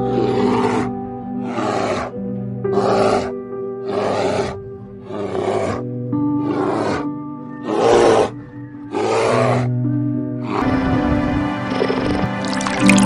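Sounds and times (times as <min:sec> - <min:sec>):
animal roars: 0:00.0 - 0:13.0
background music: 0:00.0 - 0:13.0.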